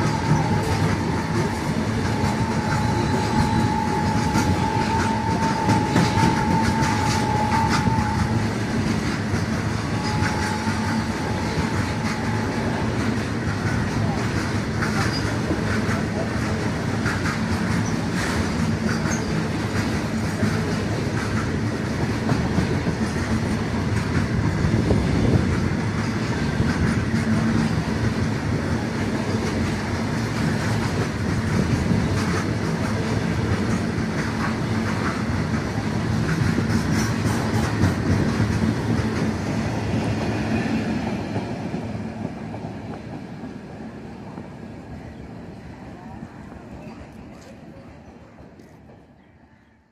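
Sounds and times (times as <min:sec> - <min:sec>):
train wheels running on rails: 0:00.0 - 0:49.9.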